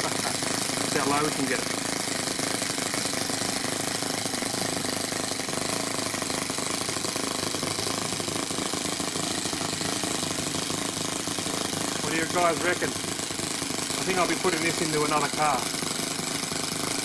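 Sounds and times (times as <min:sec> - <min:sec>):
miniature engine idling: 0:00.0 - 0:17.0.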